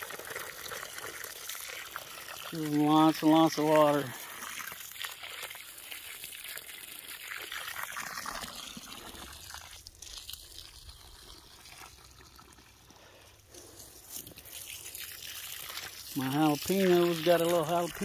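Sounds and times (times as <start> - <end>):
hose water splashing on soil: 0.0 - 18.0.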